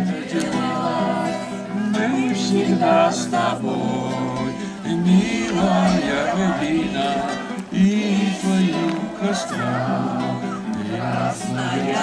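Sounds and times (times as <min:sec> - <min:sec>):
acoustic guitar: 0:00.0 - 0:12.0
people singing: 0:00.0 - 0:12.0.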